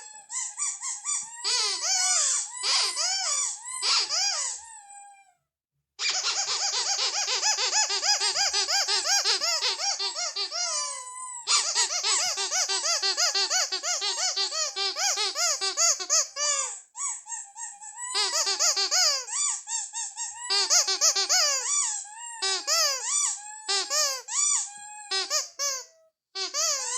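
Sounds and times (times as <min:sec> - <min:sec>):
rubber squeaky toy squeaking: 0:00.0 - 0:05.4, 0:06.0 - 0:26.9.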